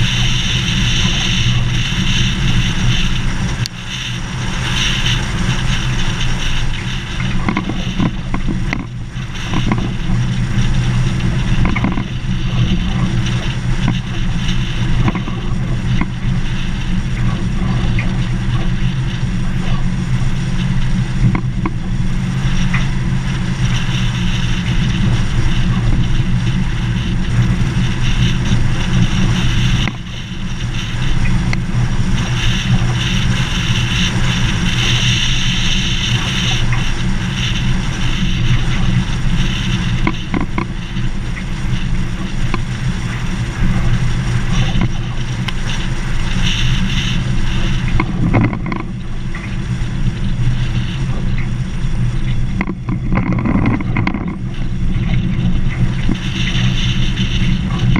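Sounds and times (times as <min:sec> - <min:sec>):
clicks and knocks from rough road: 0:00.0 - 0:57.9
tyres on gravel road: 0:00.0 - 0:57.9
vehicle engine droning: 0:00.0 - 0:57.9.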